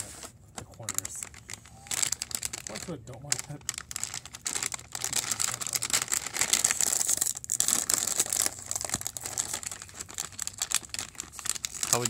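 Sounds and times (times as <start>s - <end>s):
plastic chip bag crinkling: 0.7s - 12.0s.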